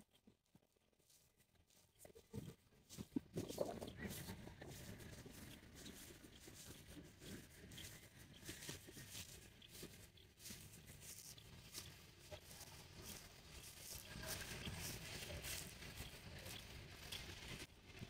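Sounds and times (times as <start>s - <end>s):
footsteps through dry grass: 0.0s - 18.0s
wind rumble on microphone: 2.3s - 18.0s.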